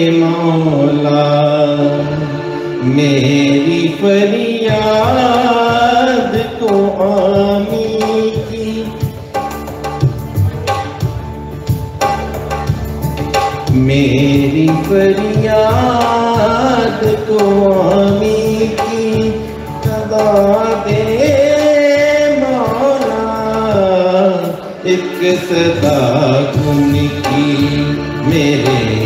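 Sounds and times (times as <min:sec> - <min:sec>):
tabla playing: 0:00.0 - 0:29.0.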